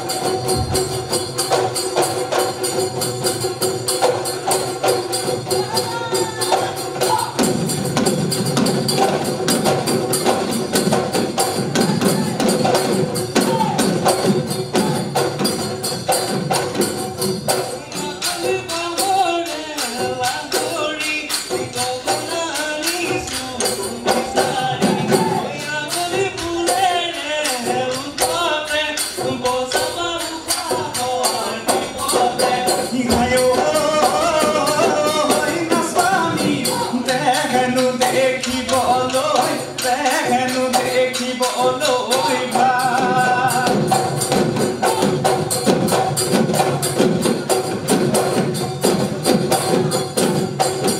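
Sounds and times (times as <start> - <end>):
drums beaten fast: 0.0 - 50.9
jingling percussion: 0.0 - 50.9.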